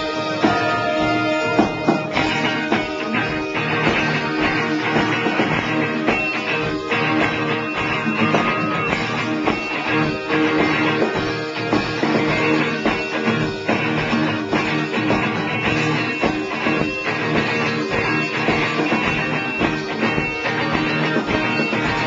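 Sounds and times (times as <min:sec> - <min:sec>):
drum beat: 0:00.0 - 0:22.0
strummed guitar: 0:00.0 - 0:22.0.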